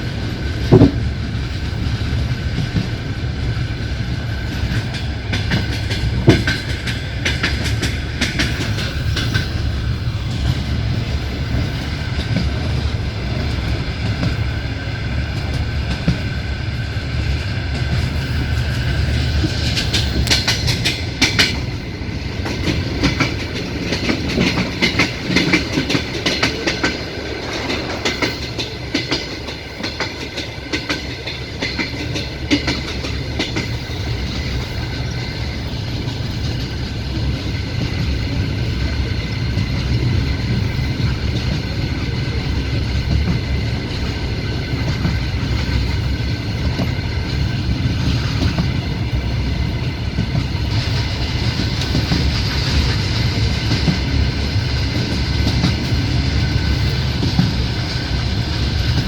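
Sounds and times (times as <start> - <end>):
clickety-clack of rail joints: 0.0 - 59.0
train wheels rumbling: 0.0 - 59.0.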